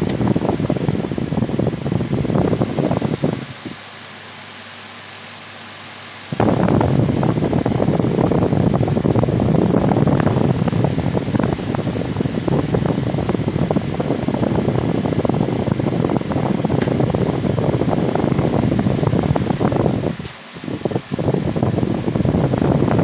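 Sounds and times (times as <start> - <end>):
table fan rush of air: 0.0 - 23.0.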